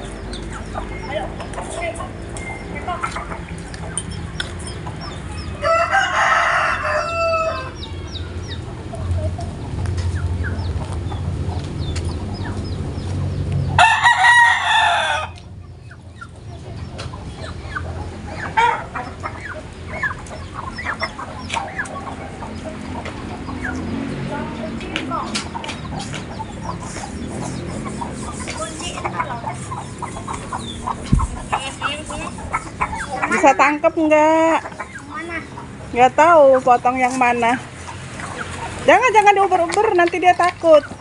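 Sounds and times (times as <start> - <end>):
hens clucking: 0.0 - 41.0
roosters crowing: 0.0 - 41.0.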